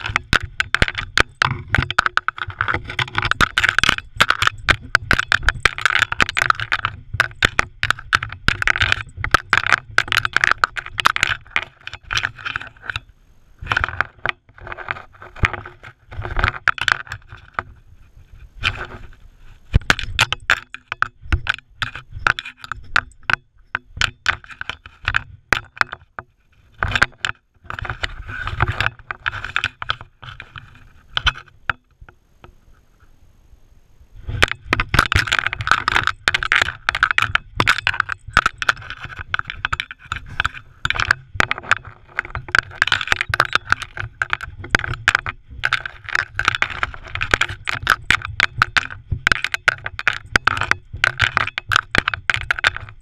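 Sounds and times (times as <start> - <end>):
camera rattling against dog: 0.0 - 32.1, 34.2 - 53.0.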